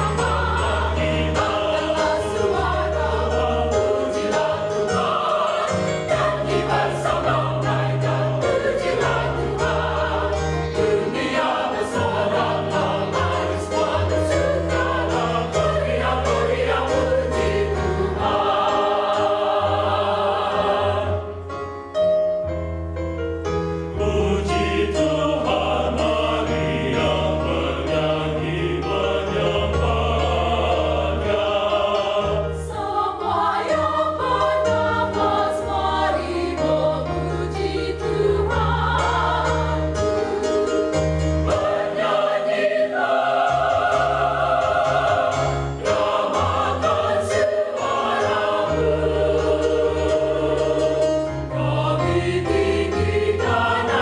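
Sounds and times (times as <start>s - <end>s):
mixed choir singing: 0.0s - 21.5s, 23.9s - 54.0s.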